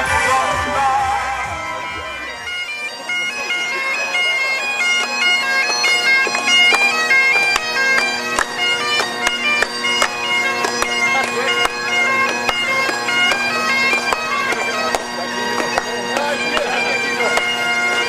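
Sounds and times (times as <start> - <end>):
bagpipes playing marching tune: 0.0 - 18.0.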